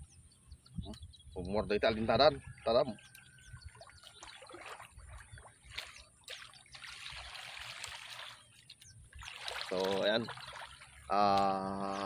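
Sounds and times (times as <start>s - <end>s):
water trickling and splashing: 1.4s - 12.0s.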